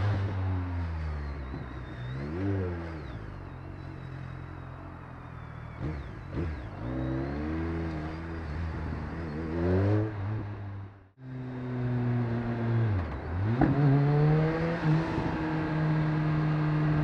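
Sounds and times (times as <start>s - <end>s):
motorcycle engine revving: 0.0s - 4.6s, 5.2s - 17.0s.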